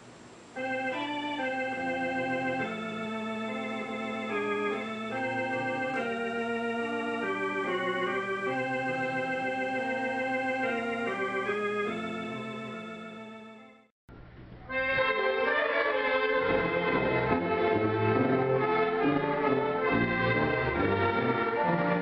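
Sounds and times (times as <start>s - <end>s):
organ playing slow chords: 0.0s - 13.9s, 14.7s - 22.0s.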